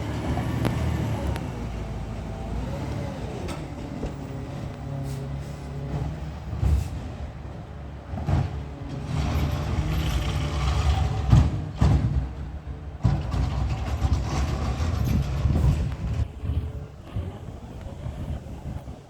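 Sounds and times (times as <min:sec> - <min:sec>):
garbage truck diesel engine running: 0:00.0 - 0:19.0.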